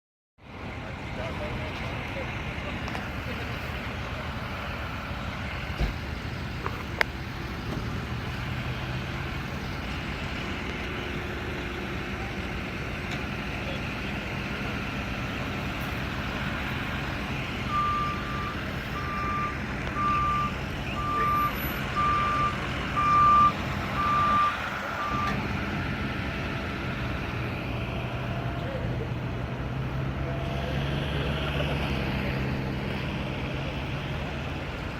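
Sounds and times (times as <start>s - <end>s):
truck engines and traffic rumble: 0.4s - 34.9s.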